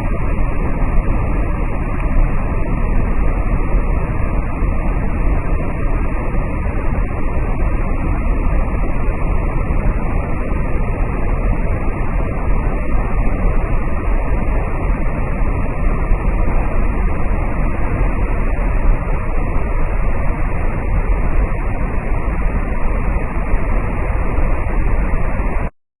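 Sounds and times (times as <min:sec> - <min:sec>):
waterfall roaring: 0:00.0 - 0:25.7.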